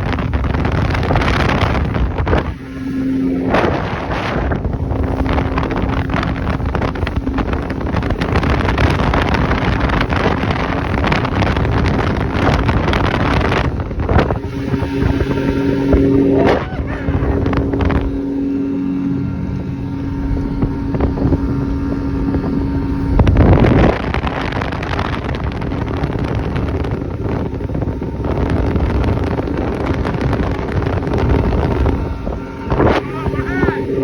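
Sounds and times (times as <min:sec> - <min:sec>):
outboard motor humming: 0:00.0 - 0:34.0
wind buffeting microphone: 0:00.0 - 0:34.0.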